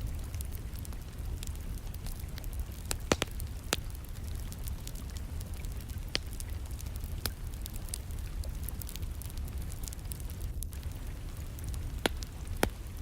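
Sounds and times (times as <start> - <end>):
logs crackling in a fireplace: 0.0 - 13.0
rain: 0.0 - 13.0.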